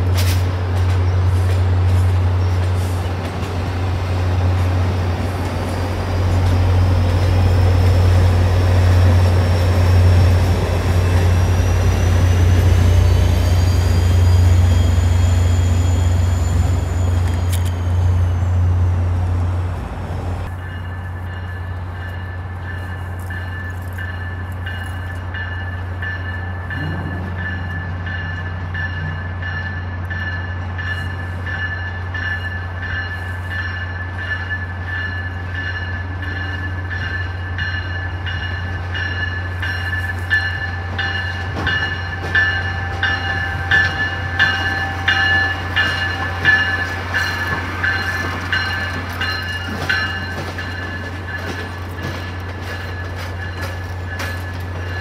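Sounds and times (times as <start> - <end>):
train engine drone: 0.0 - 55.0.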